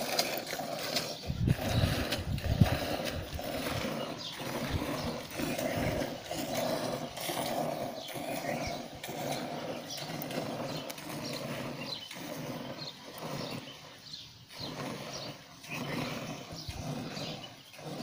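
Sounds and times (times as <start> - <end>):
milk squirting into pail: 0.0 - 18.0.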